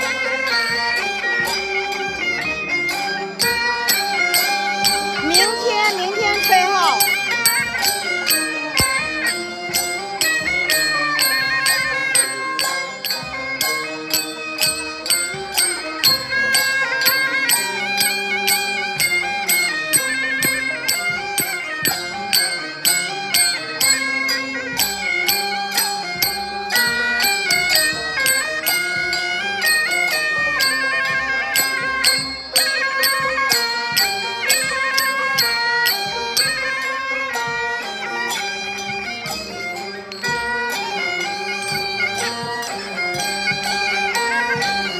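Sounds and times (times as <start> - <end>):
percussion beat: 0.0 - 44.9
wind instrument melody: 0.0 - 44.9.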